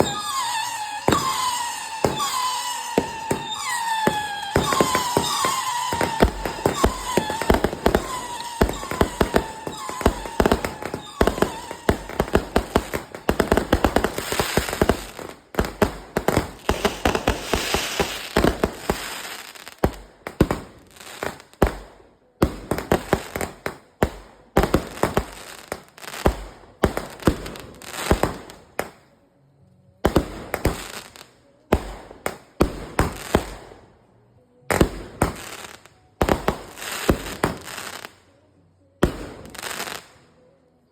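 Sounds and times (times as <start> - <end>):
fireworks bangs and crackle: 0.0 - 29.0, 30.0 - 33.9, 34.7 - 38.3, 39.0 - 40.3
fireworks whistling: 0.0 - 29.1, 30.0 - 33.9, 34.7 - 38.3, 39.0 - 40.3.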